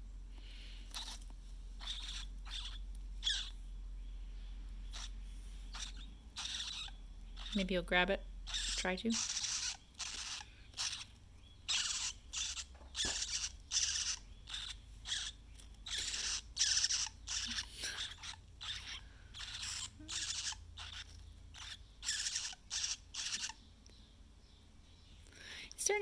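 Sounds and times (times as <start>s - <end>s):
nestling bird squawking: 0.9s - 1.2s, 1.8s - 3.6s, 4.8s - 23.7s.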